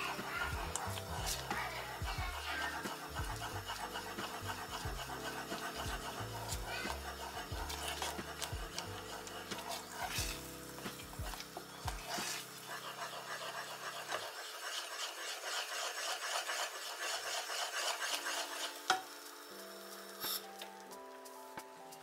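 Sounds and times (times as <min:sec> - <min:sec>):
wooden spoon scraping thick paste: 0:00.0 - 0:18.8
soft background music: 0:00.0 - 0:22.0.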